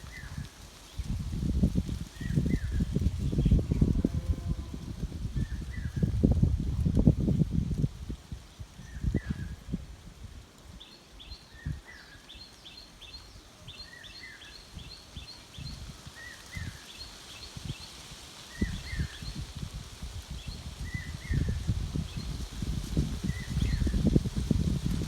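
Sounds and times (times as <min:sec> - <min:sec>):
wind rumble on microphone: 0:00.0 - 0:12.4, 0:13.1 - 0:25.0.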